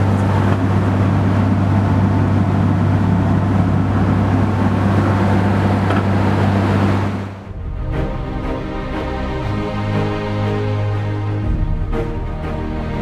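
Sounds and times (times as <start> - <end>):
motor boat engine humming: 0.0 - 13.0.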